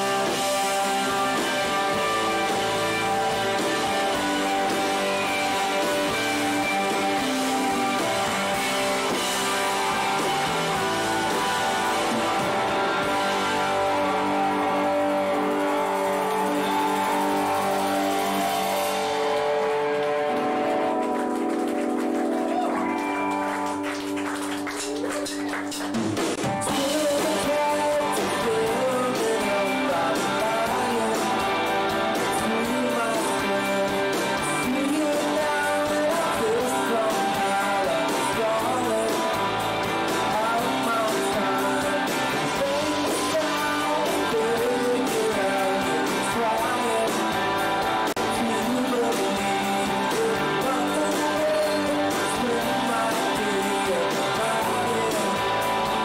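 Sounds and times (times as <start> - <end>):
man singing lead vocal: 0.0 - 20.4, 26.6 - 56.0
rock band playing: 0.0 - 56.0.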